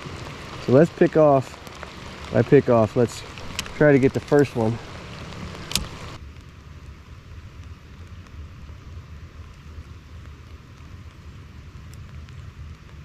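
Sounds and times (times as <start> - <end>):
light rain drop ticks: 0.0 - 13.0
steady low rumble: 0.0 - 13.0.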